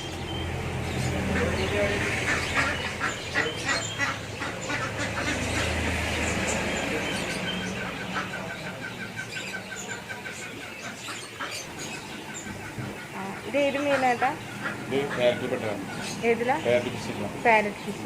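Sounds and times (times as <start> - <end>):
birds calling and chattering: 0.0 - 18.0.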